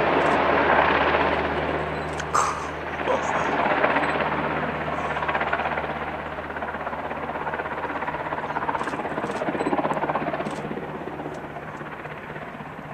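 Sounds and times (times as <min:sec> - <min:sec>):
helicopter engine hum: 0:00.0 - 0:12.9
helicopter rotor beating: 0:00.0 - 0:12.9.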